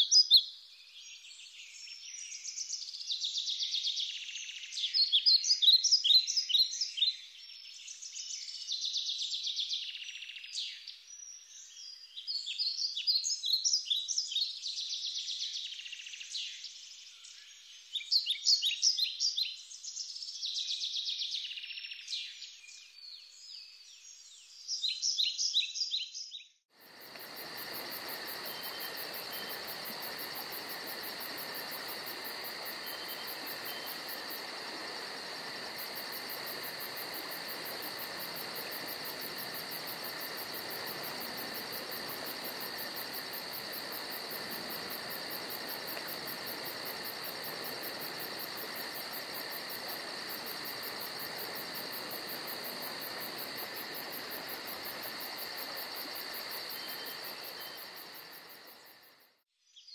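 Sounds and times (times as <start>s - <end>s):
cricket chorus: 0.0s - 25.9s, 26.7s - 59.9s.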